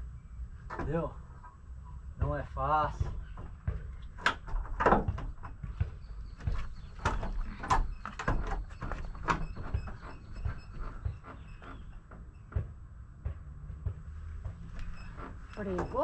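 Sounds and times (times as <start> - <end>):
window frame knocking and scraping: 2.3 - 16.0.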